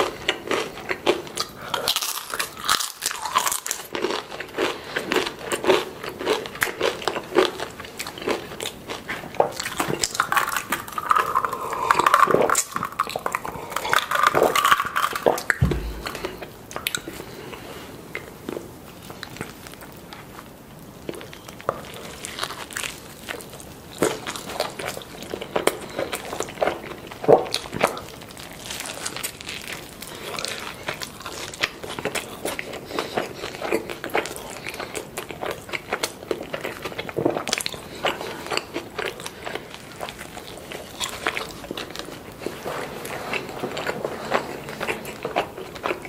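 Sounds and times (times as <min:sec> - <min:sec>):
burrito being bitten and chewed: 0:00.0 - 0:46.0.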